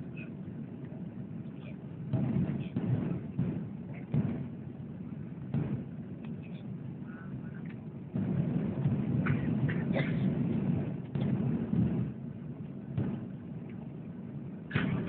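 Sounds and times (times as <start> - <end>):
airplane rumble: 0.0 - 15.0.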